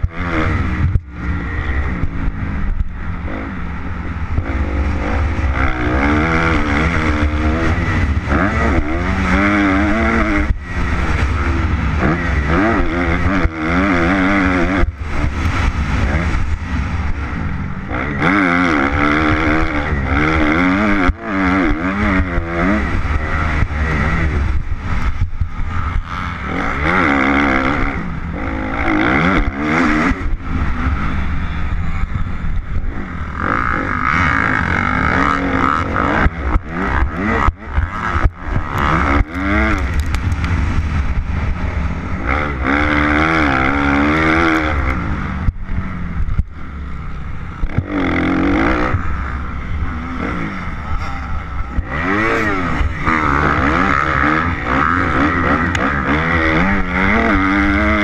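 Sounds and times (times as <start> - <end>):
motocross bike engine revving: 0.0 - 58.0
wind rumble on microphone: 0.0 - 58.0.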